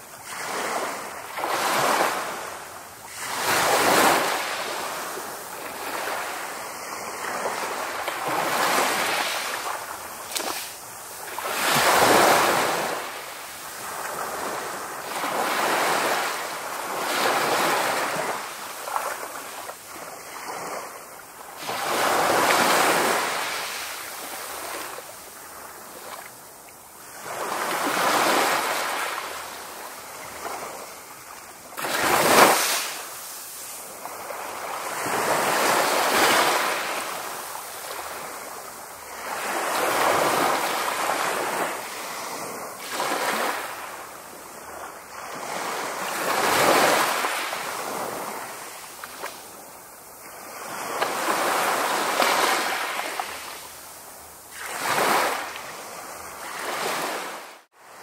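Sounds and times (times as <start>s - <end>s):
ocean waves breaking on a beach: 0.0s - 58.0s.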